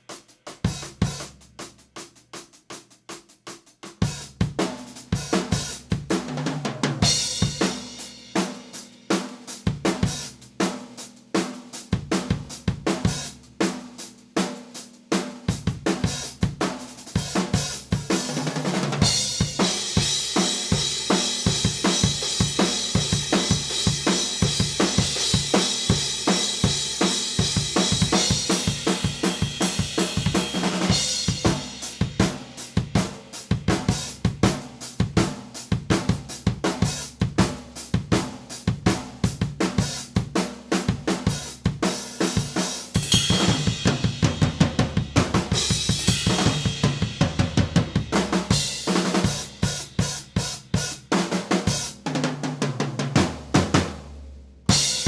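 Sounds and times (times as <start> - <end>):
acoustic drum kit playing: 0.0 - 55.0.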